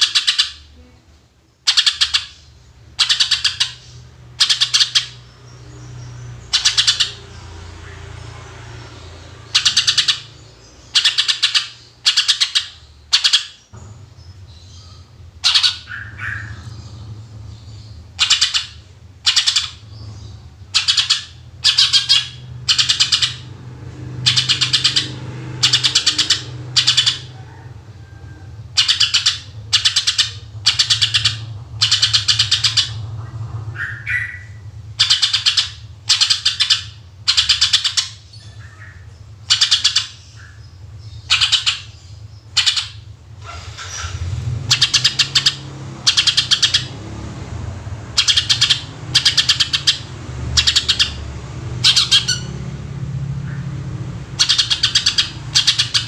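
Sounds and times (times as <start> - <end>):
steady low hum: 2.3 - 56.0.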